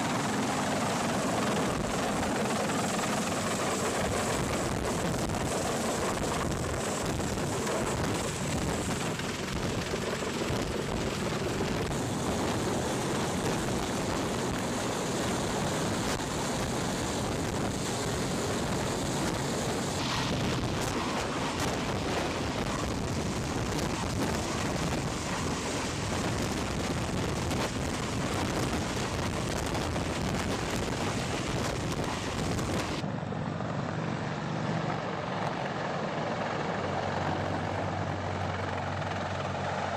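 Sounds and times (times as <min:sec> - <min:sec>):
helicopter hovering overhead: 0:00.0 - 0:39.9.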